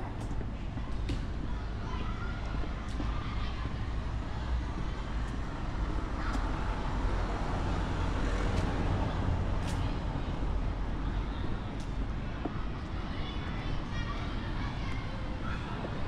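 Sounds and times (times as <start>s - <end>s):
low rumble of city traffic: 0.0s - 16.0s.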